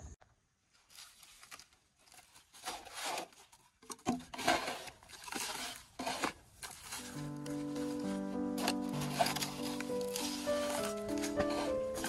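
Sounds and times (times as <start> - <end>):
plastic pots rustling: 0.7 - 12.0
gritty scraping of soil: 0.8 - 12.0.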